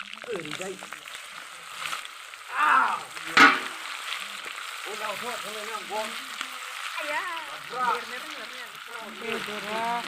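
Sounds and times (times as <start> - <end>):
chicken frying in oil: 0.0 - 10.0.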